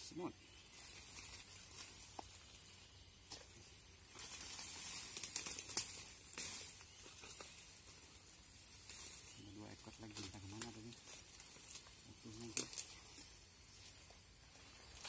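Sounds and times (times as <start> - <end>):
high insect drone: 0.0 - 15.0
rustling: 0.6 - 15.0.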